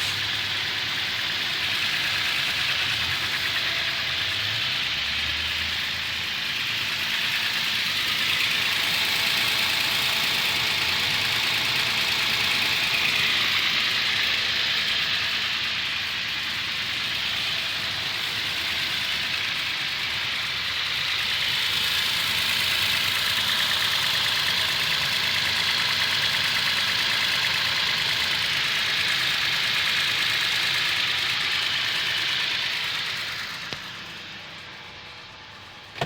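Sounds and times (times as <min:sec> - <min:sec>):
engine ticking: 0:00.0 - 0:36.0
truck engine idling: 0:00.0 - 0:36.0.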